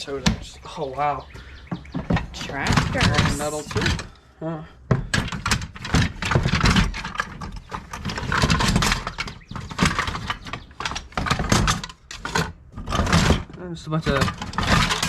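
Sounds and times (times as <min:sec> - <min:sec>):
metal toys clattering: 0:01.9 - 0:04.1, 0:05.1 - 0:15.0.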